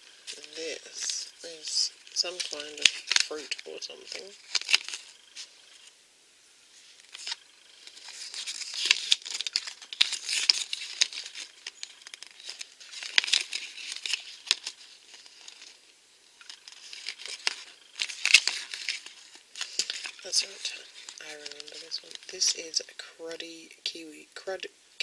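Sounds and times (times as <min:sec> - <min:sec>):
paper crinkling and crackling: 0:00.0 - 0:05.9, 0:06.8 - 0:23.1.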